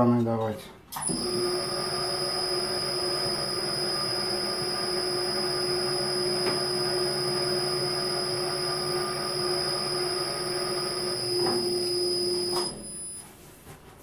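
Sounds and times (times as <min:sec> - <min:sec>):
electric gear motor humming: 0:01.0 - 0:13.2.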